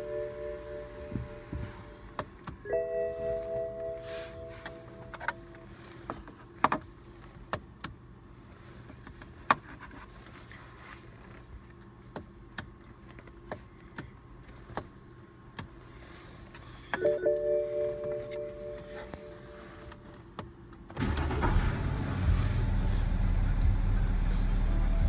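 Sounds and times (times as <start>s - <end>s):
car cabin hum: 0.0s - 25.0s.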